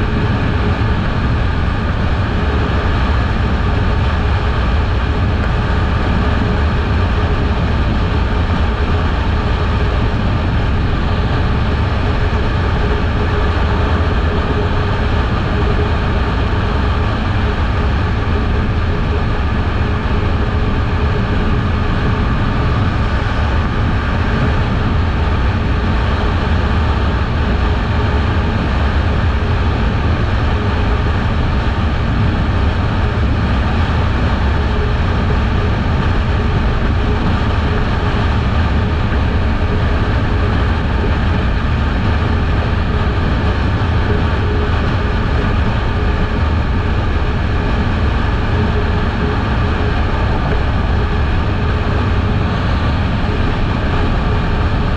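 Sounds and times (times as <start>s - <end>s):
wind rumble: 0.0s - 54.9s.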